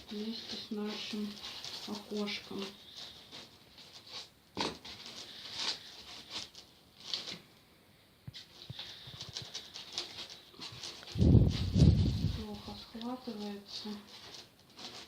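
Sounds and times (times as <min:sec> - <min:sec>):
foam panels scraping and tapping: 0:00.0 - 0:07.4, 0:08.3 - 0:15.0.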